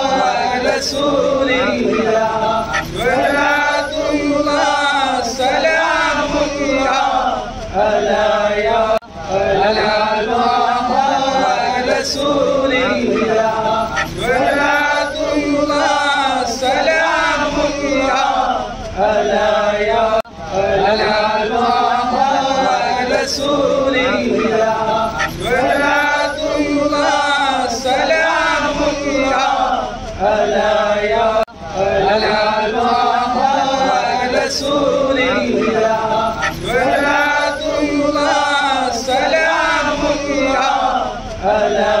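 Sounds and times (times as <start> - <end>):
men chanting in unison: 0.0 - 42.0.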